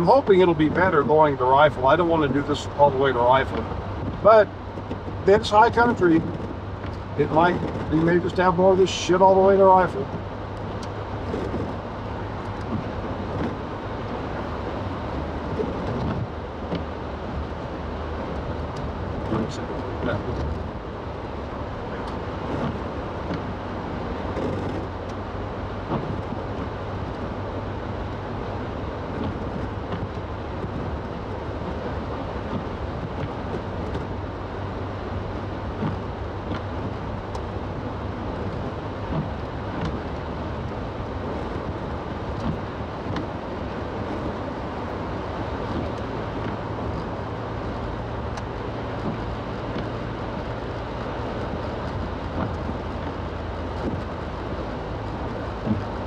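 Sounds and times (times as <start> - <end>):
car engine and tyres drone: 0.0 - 56.0.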